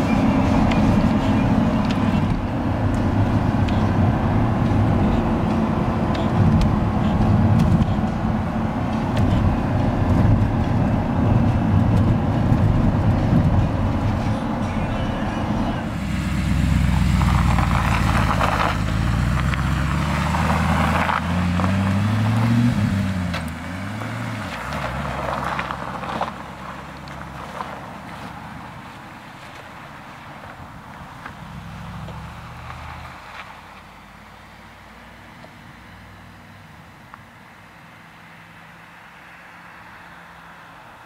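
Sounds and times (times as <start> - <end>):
car engine: 0.0 - 41.0
road noise: 0.0 - 41.0.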